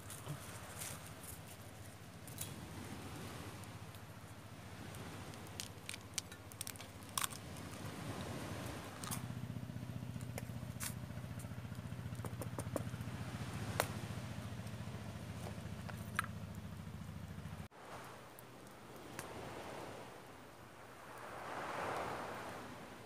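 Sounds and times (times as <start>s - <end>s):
crackling wood fire: 0.0s - 20.0s.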